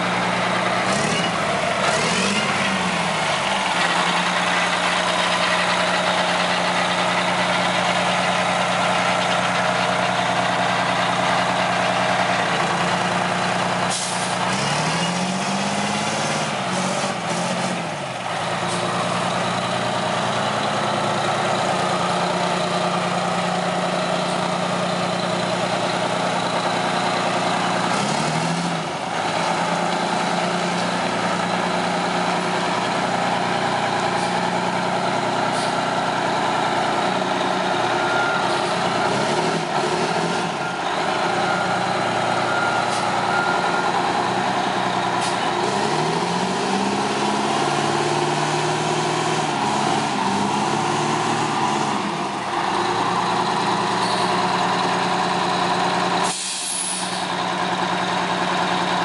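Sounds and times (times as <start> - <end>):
bus diesel engine idling: 0.0 - 15.0, 15.6 - 59.0.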